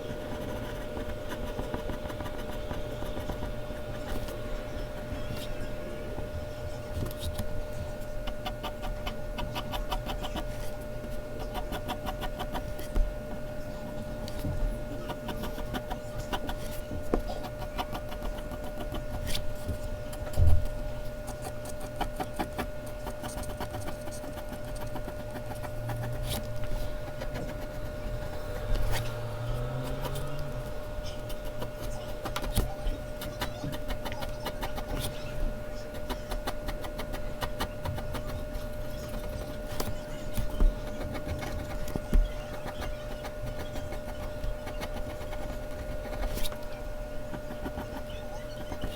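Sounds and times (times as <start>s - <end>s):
pencil scratching on paper: 0.0s - 5.7s, 8.2s - 13.0s, 14.3s - 48.9s
faint steady hum: 0.0s - 48.9s.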